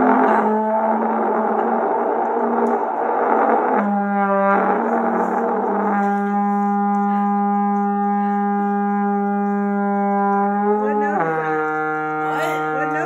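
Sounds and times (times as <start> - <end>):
trombone note: 0.0 - 13.0.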